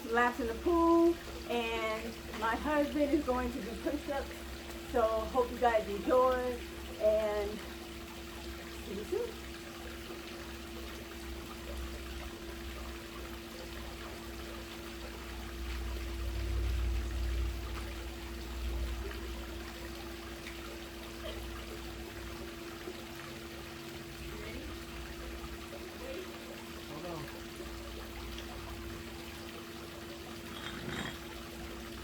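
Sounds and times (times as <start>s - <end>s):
steady hum: 0.0s - 32.0s
water trickling and splashing: 0.0s - 32.0s.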